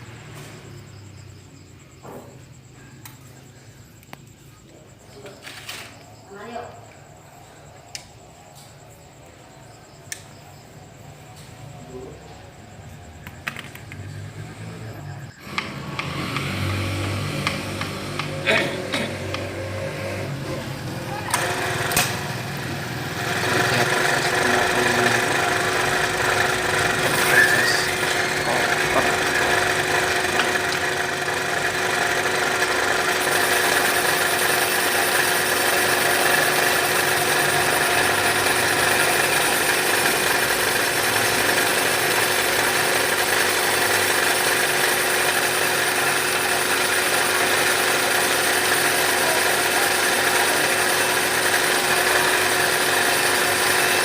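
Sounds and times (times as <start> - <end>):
boring machine hum: 2.0 - 54.0.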